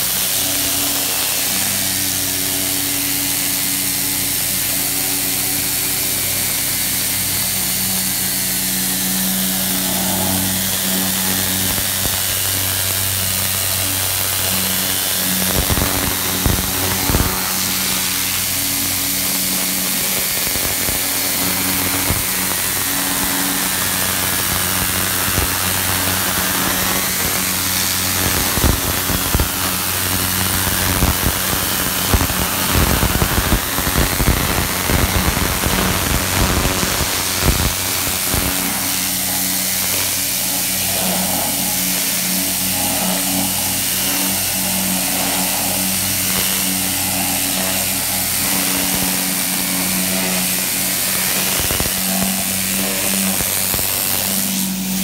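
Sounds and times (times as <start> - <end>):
pressure washer jet hissing on metal: 0.0 - 55.0
pump humming: 0.0 - 55.0.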